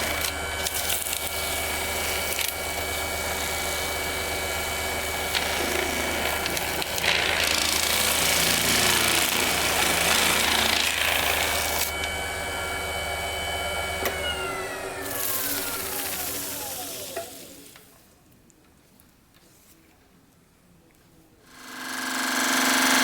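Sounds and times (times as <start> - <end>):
woodworking lathe humming and whining: 0.0 - 17.8, 21.6 - 23.0.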